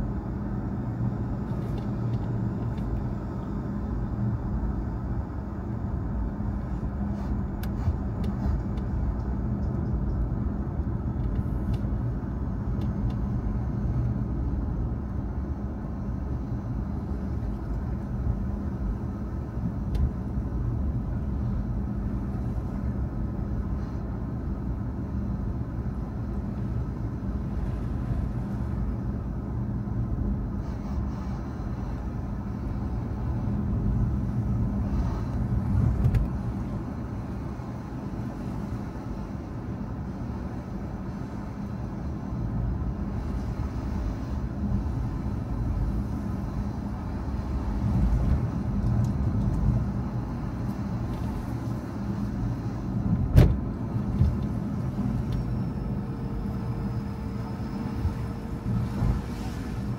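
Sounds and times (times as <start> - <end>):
car engine hum: 0.0 - 59.9
road noise: 0.0 - 59.9.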